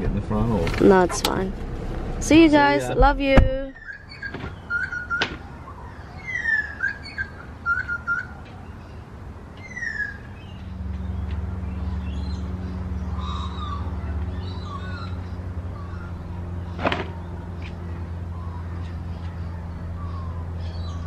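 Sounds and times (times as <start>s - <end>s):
steady low hum: 0.0s - 21.0s
birds whistling: 3.6s - 21.0s.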